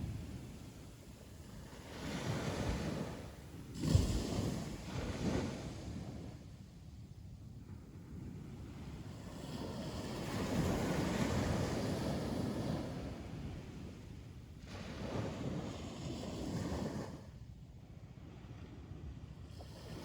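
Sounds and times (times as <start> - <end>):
ocean waves breaking on beach: 0.0 - 6.7, 7.8 - 17.4.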